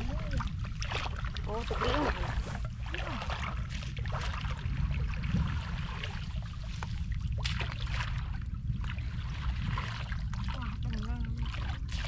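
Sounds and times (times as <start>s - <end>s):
small water splashes: 0.0s - 12.0s
steady low rumble: 0.0s - 12.0s
water sloshing and trickling: 0.0s - 12.0s.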